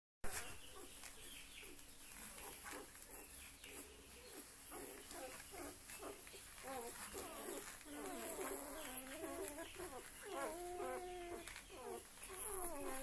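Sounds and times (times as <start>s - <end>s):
puppies squeaking and grunting: 0.3s - 13.0s.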